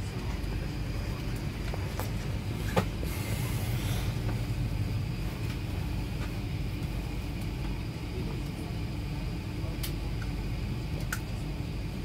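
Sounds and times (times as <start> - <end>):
aircraft cabin hum: 0.0 - 12.0.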